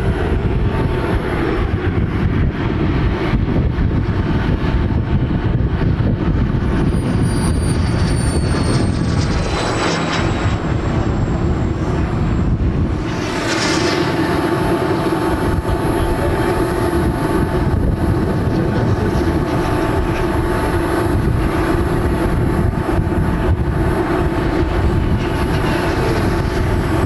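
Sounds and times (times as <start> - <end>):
model jet turbine whine: 0.0 - 27.0.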